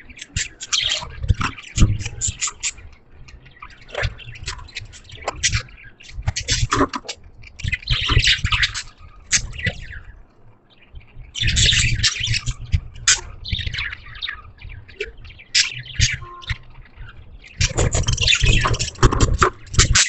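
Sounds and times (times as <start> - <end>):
budgies chirping: 0.0 - 20.0.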